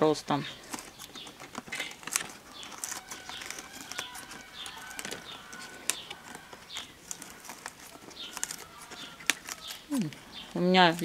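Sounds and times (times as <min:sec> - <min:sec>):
birds chirping: 0:00.0 - 0:11.0
leaf rustle: 0:00.3 - 0:11.0
scissors snipping leaves: 0:00.6 - 0:11.0.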